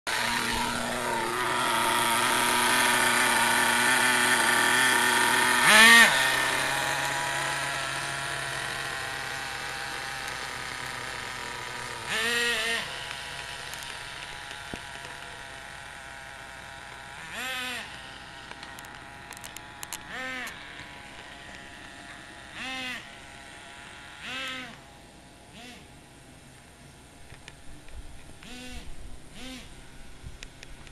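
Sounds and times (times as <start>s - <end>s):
small engine revving: 0.0s - 26.0s, 28.3s - 30.9s.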